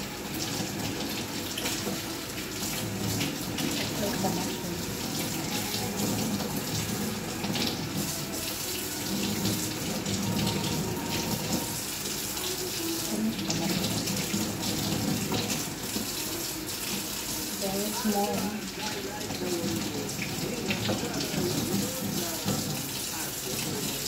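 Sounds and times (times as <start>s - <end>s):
mushrooms rinsed by hand: 0.0s - 24.0s
tap water running into sink: 0.0s - 24.0s.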